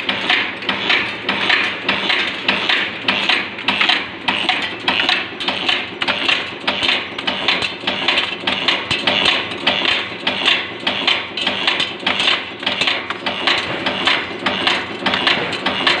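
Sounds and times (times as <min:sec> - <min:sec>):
heading machine metal clatter: 0:00.0 - 0:16.0.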